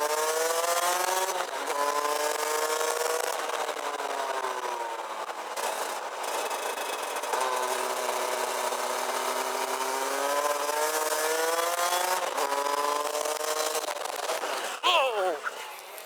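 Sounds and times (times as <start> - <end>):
two-stroke kart engine revving: 0.0 - 4.9, 5.6 - 14.9.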